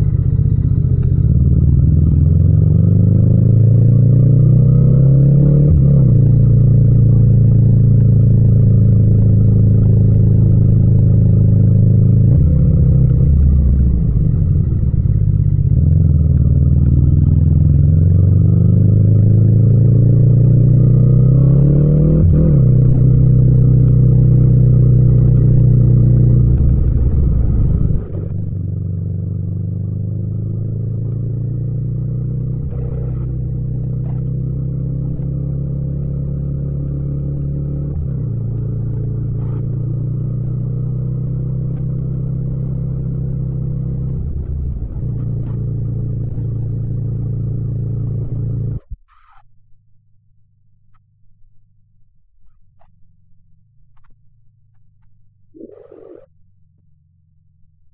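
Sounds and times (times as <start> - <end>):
motorcycle engine accelerating: 0.0 - 49.4, 55.4 - 57.9.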